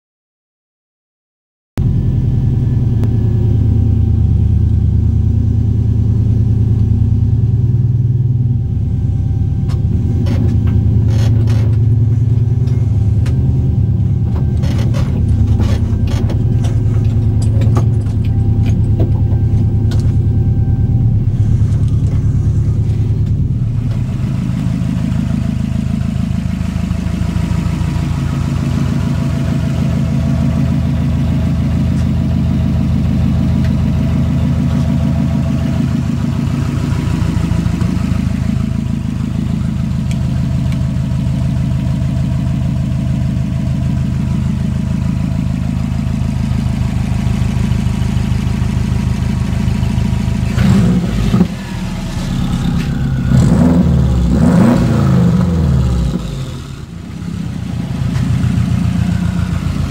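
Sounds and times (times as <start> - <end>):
car engine idling: 1.8 - 59.9.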